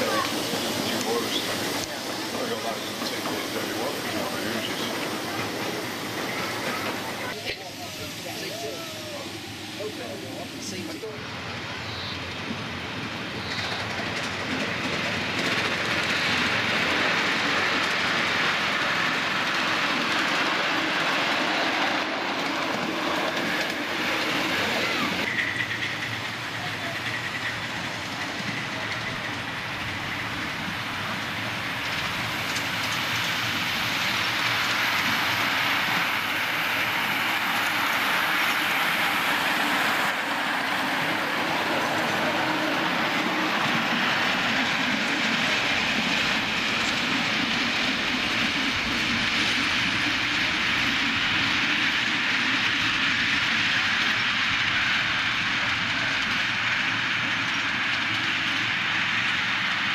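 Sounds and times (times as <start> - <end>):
wheels clattering on rails: 0.0 - 8.7, 12.3 - 59.9
miniature steam train running: 0.0 - 59.9.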